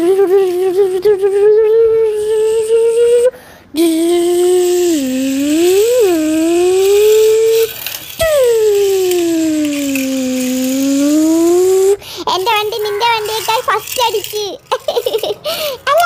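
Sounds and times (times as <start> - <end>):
person imitating car engine: 0.0 - 16.0
light rattle: 2.0 - 16.0.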